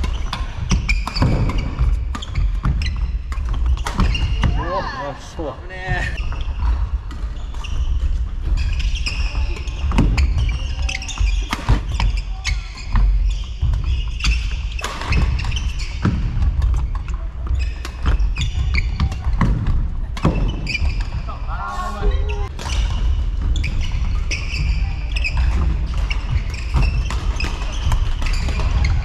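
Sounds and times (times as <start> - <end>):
shoes squeaking on court floor: 0.0 - 29.0.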